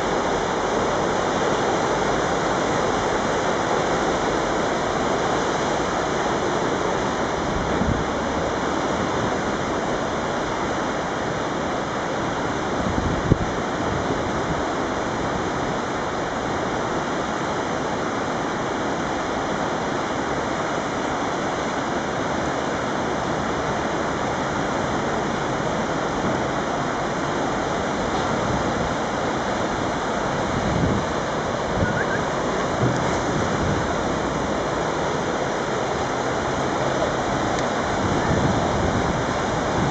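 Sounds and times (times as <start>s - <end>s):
rushing floodwater: 0.0s - 39.9s.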